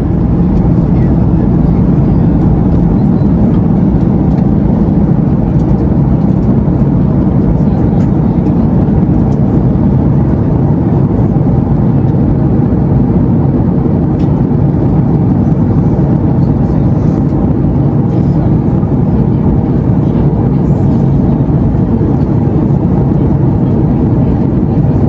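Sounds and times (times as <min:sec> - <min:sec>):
airliner cabin engine roar: 0:00.0 - 0:25.0.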